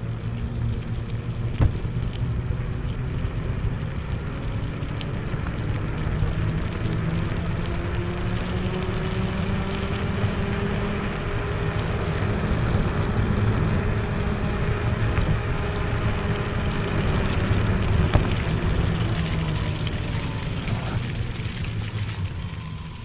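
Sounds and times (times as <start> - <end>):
tyres rumbling: 0.0 - 23.0.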